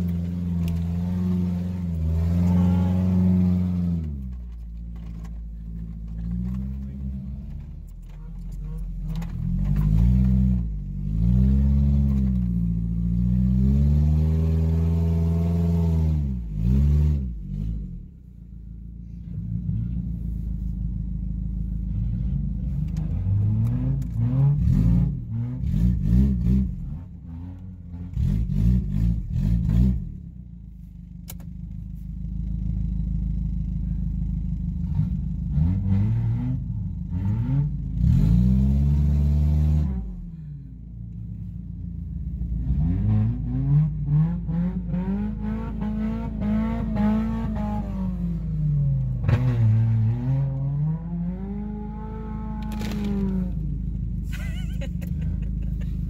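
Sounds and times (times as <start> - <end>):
car engine revving: 0.0 - 30.4, 32.4 - 56.0.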